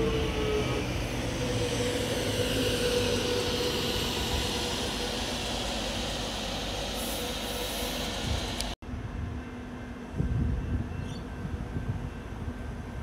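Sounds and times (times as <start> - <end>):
train wheels rumbling on rails: 0.0 - 13.0
train whine: 0.0 - 13.0.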